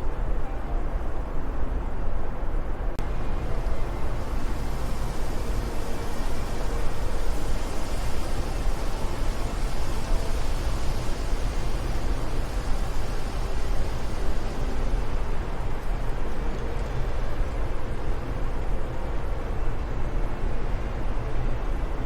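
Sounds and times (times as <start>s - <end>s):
wind rumble and hiss: 0.0s - 22.0s.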